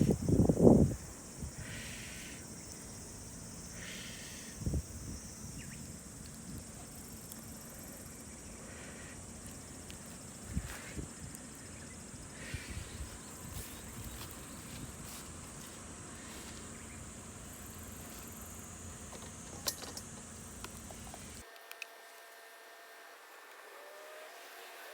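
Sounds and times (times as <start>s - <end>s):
high-pitched insect chorus: 0.0s - 21.4s.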